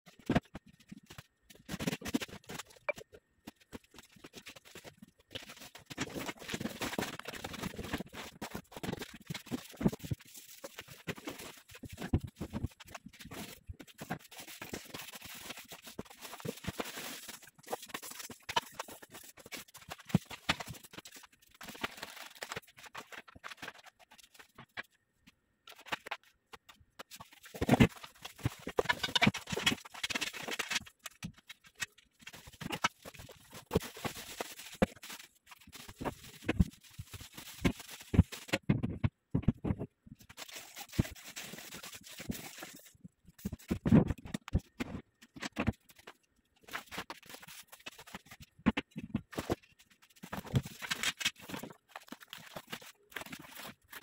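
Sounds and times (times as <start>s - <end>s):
cardboard and plastic rustling: 0.1s - 25.0s, 25.7s - 54.0s.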